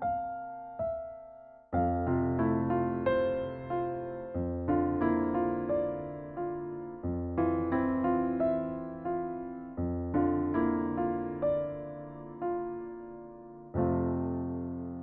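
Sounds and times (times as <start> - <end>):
gentle electric piano music: 0.0 - 15.0.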